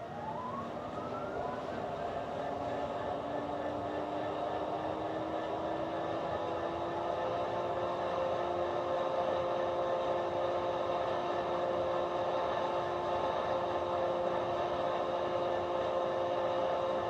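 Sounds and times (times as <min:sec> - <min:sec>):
model train running hum: 0:00.0 - 0:17.0.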